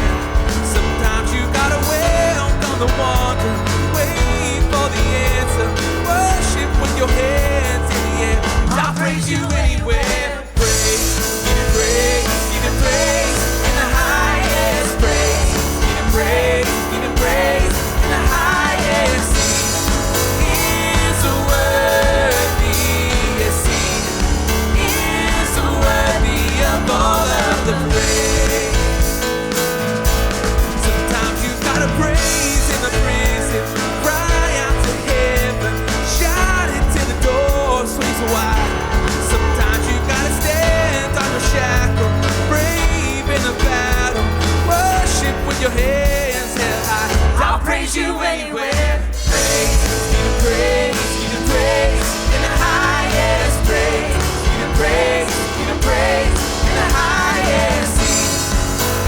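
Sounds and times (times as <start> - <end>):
live band playing worship music: 0.0 - 59.0.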